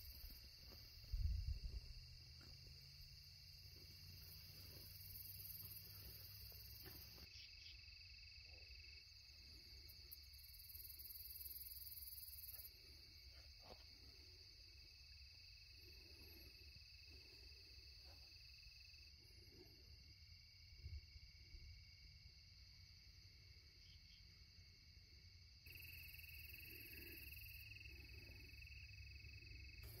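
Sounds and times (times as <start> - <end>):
lower pulsing cricket trill: 0.0 - 30.0.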